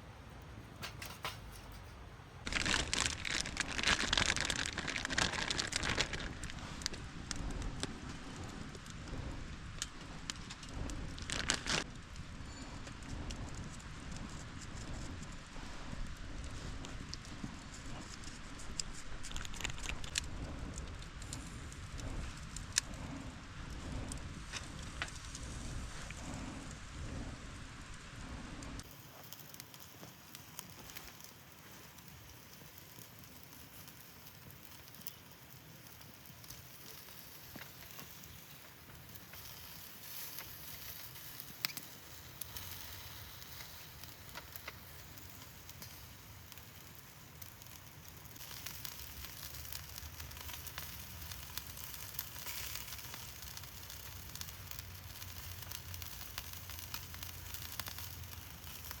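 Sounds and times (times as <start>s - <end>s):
fire hiss: 0.0s - 59.0s
campfire crackling and popping: 0.3s - 27.0s, 28.8s - 59.0s.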